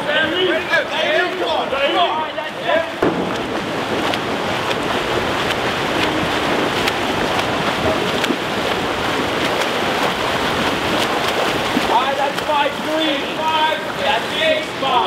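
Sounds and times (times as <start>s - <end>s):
swimmers splashing water: 0.0s - 15.0s.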